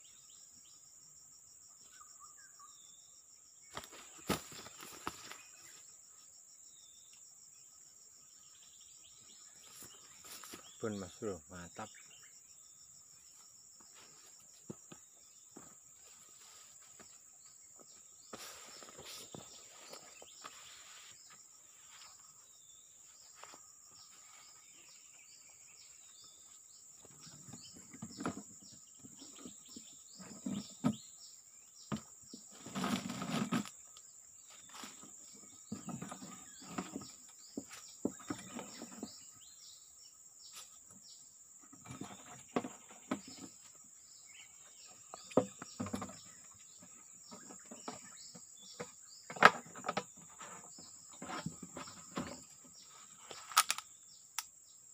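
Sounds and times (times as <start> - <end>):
insect drone: 0.0 - 54.9.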